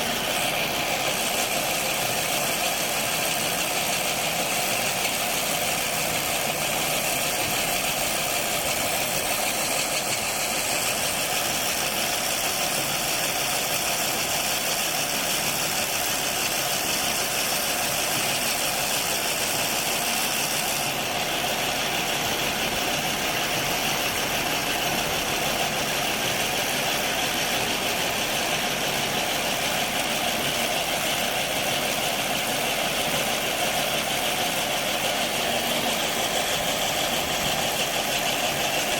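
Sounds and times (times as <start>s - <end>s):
harvesting machine droning: 0.0s - 38.9s.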